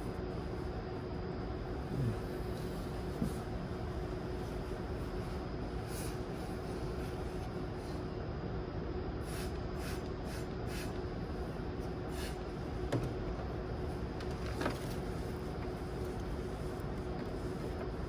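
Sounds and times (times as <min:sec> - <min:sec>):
background hum with tone: 0:00.0 - 0:18.0.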